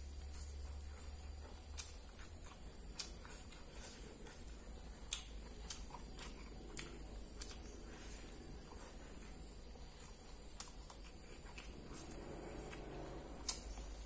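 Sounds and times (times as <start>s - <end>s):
chewing crispy food: 0.0s - 14.0s
steady low hum: 0.0s - 14.0s.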